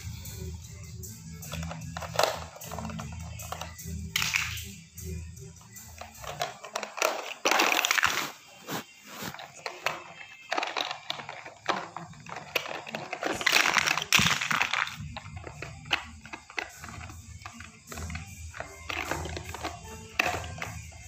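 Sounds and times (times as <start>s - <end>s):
plastic blocks clattering on cardboard: 1.5s - 4.6s, 5.6s - 21.0s.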